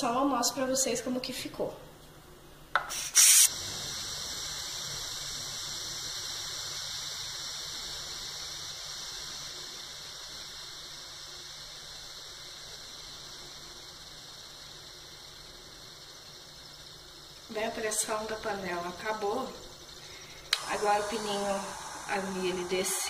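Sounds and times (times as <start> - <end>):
steam hissing from pressure cooker: 2.8 - 23.0.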